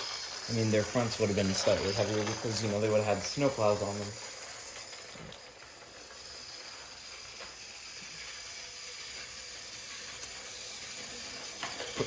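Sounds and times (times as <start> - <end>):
toy train motor whirring: 0.0 - 12.0
wheels clicking over track: 0.0 - 12.0.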